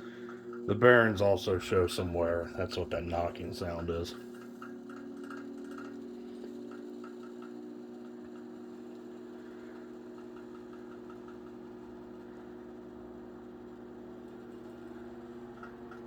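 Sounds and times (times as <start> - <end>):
fan motor humming: 0.0 - 16.0
fan rhythmic knocking: 0.0 - 16.0.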